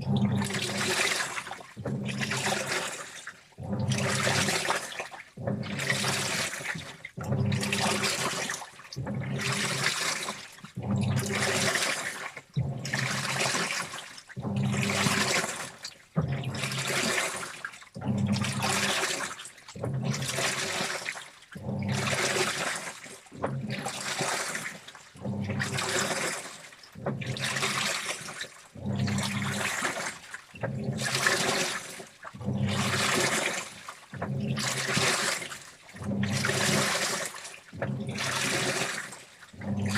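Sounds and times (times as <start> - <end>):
washing machine motor hum: 0.0 - 39.9
washing machine water sloshing: 0.0 - 39.9.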